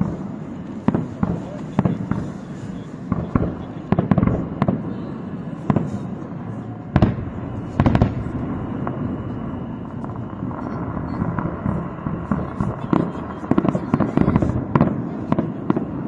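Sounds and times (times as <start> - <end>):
rumble of distant fireworks: 0.0 - 16.0.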